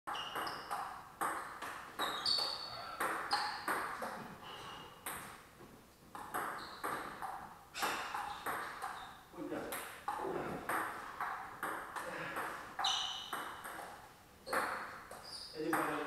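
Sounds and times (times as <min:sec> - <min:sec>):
table tennis ball hits: 0:00.1 - 0:04.2, 0:05.0 - 0:05.4, 0:06.1 - 0:09.0, 0:09.7 - 0:16.0.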